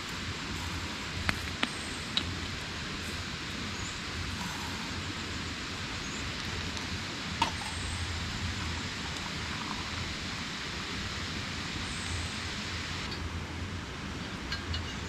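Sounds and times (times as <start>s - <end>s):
flowing river water: 0.0s - 14.4s.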